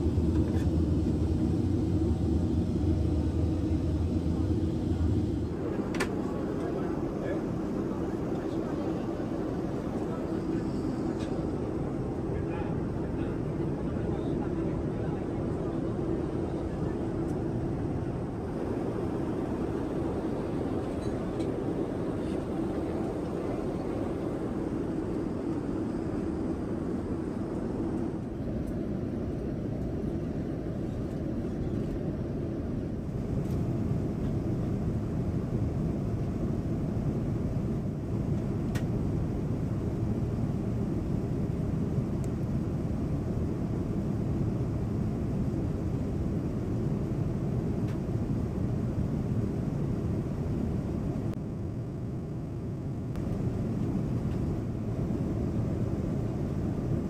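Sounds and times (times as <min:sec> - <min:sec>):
airliner cabin engine rumble: 0:00.0 - 0:57.0
faint hum: 0:00.0 - 0:57.0.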